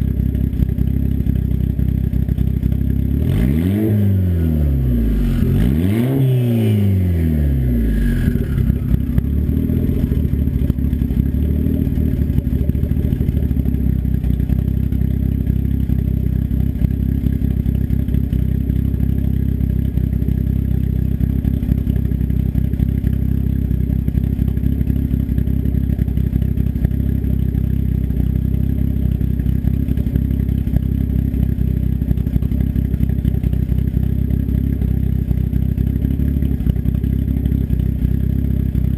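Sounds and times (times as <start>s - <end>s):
turbocharged engine revving and idling: 0.0s - 38.9s.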